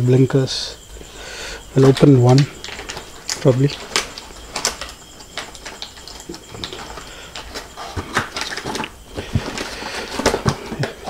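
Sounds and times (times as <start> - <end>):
plastic and cardboard rustling: 1.8 - 11.0.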